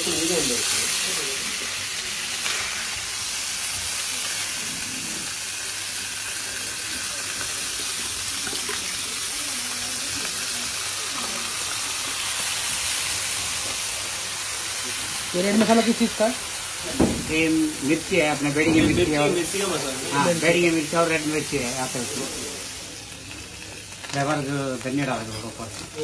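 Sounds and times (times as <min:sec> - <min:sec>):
fish frying on a griddle: 0:00.0 - 0:26.0.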